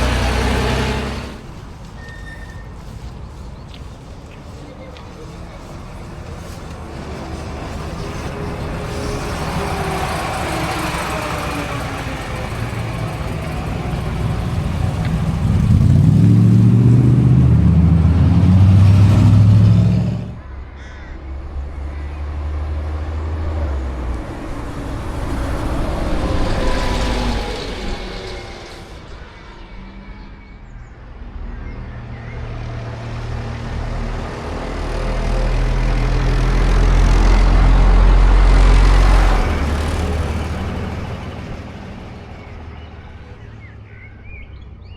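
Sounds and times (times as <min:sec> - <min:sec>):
bus engine pulling away: 0:00.0 - 0:20.4, 0:21.3 - 0:44.9
bus diesel engines driving past: 0:00.0 - 0:44.9.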